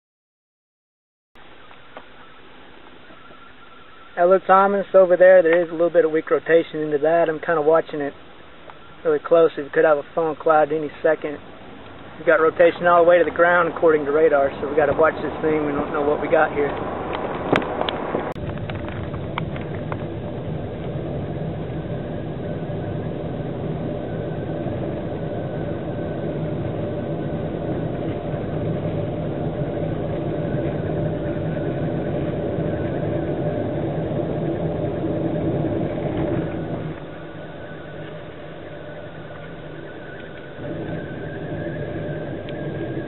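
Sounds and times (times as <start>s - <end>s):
car engine and road noise: 1.4s - 43.0s.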